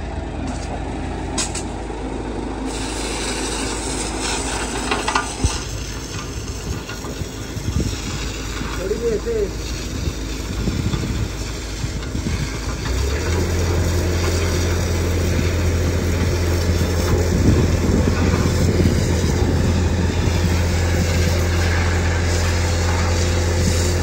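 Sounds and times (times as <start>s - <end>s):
engine droning: 0.0s - 24.0s
high-pressure water jet: 2.7s - 24.0s.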